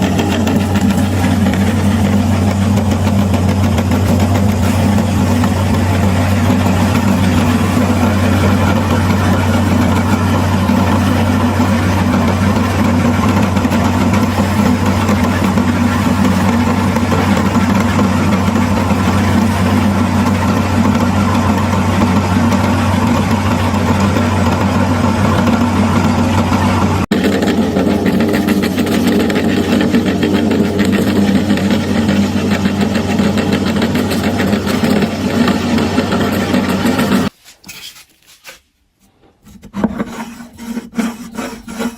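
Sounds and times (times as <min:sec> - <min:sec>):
meat grinder motor humming: 0:00.0 - 0:37.3.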